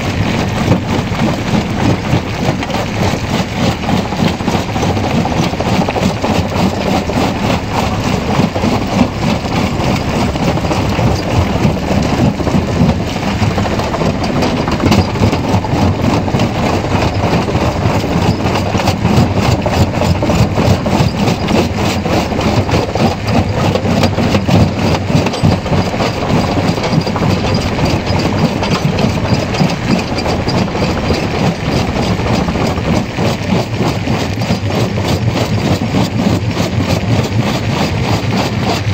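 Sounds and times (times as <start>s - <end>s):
rock cracking and grinding: 0.0s - 38.9s
rock crusher drone: 0.0s - 38.9s.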